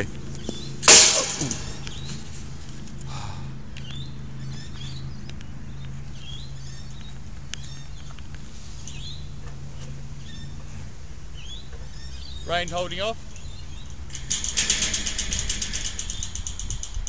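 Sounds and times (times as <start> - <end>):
small birds chirping: 0.0 - 0.8, 1.4 - 17.0
steady low hum: 0.0 - 17.0.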